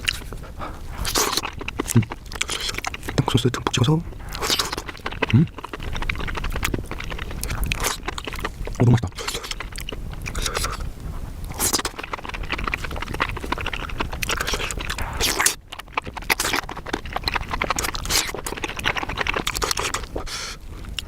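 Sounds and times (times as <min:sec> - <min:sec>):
person chewing crunchy food: 0:00.0 - 0:21.0.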